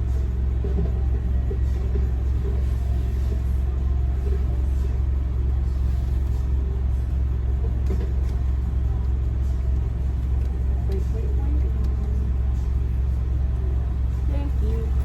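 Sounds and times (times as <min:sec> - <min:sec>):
car idling from inside cabin: 0:00.0 - 0:15.0.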